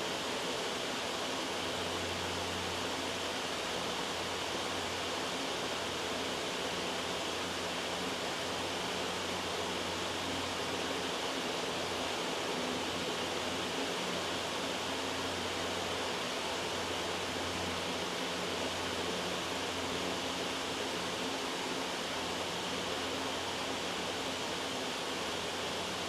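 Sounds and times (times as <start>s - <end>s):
loud white noise: 0.0s - 26.0s.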